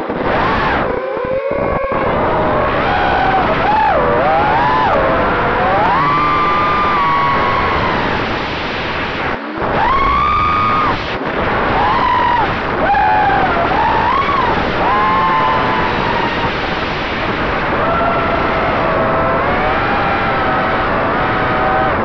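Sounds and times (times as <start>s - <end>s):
drone motors whining: 0.0s - 8.8s, 9.4s - 22.0s
wind rushing: 0.0s - 22.0s.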